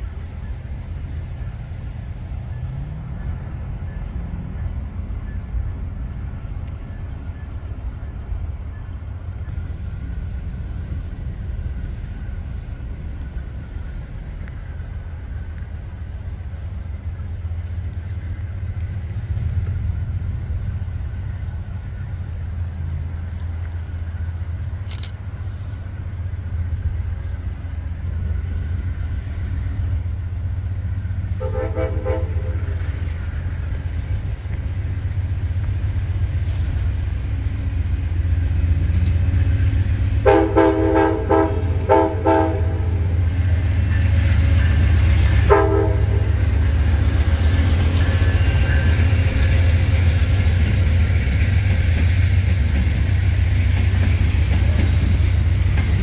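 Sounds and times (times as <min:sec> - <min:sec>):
diesel engine rumble: 0:00.0 - 0:56.0.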